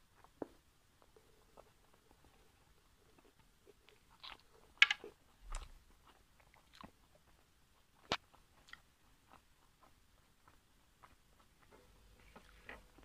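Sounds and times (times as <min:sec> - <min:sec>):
person chewing: 0:00.1 - 0:13.0.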